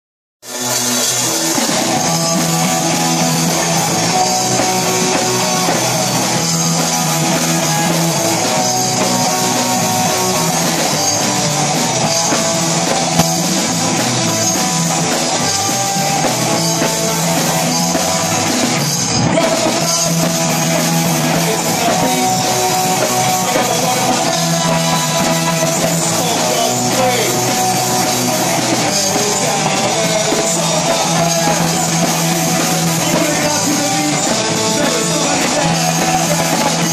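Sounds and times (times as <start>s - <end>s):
bass guitar: 0.4s - 36.9s
drum kit: 0.4s - 36.9s
electric guitars: 0.4s - 36.9s.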